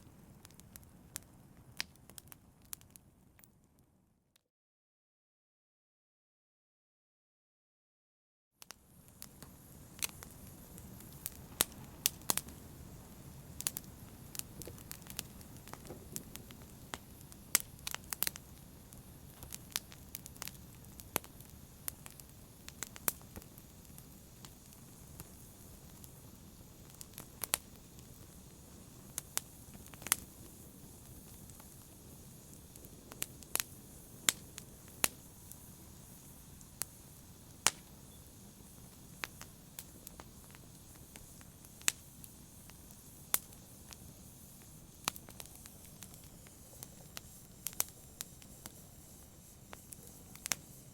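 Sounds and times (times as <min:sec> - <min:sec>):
wood fire crackling: 0:00.0 - 0:03.8, 0:08.7 - 0:50.9.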